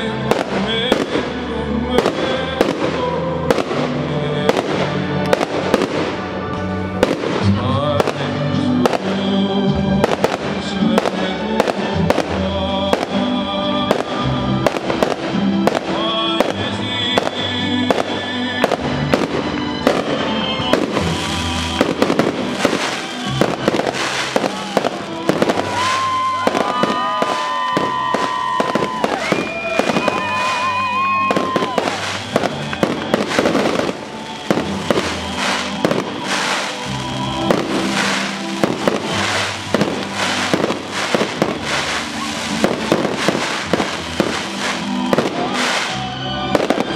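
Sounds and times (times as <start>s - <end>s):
fireworks banging and crackling: 0.0s - 46.9s
music: 0.0s - 46.9s.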